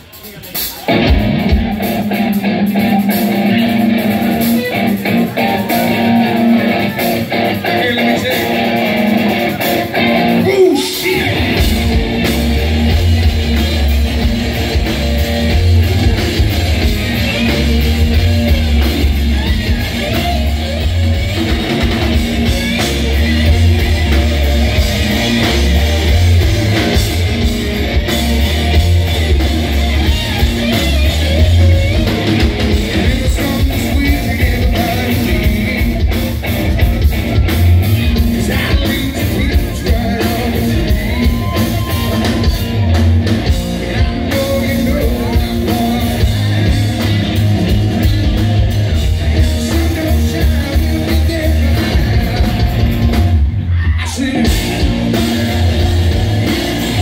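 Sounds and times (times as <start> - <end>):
electric guitar: 0.0 - 57.0
live rock band playing: 0.0 - 57.0
heavy pulsing bass: 0.9 - 57.0.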